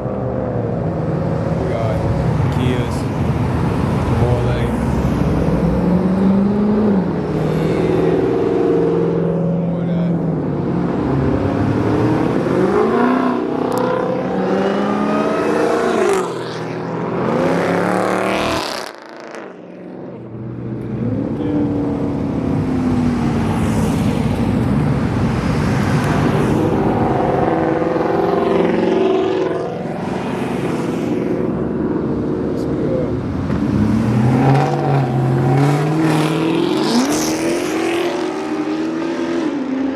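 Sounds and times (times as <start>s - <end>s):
cars driving past revving: 0.0s - 39.9s.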